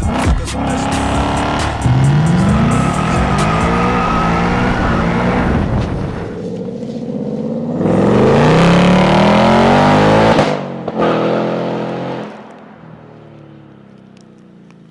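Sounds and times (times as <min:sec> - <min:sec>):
car engine accelerating hard: 0:00.0 - 0:14.8.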